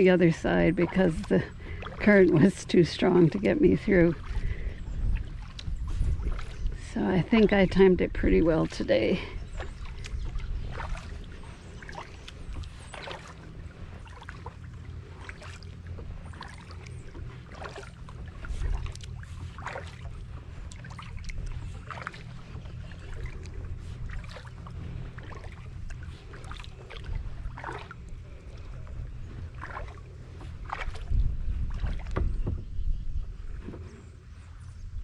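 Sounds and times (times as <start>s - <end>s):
paddle strokes splashing water: 0.0s - 34.7s
steady low rumble: 0.0s - 35.0s.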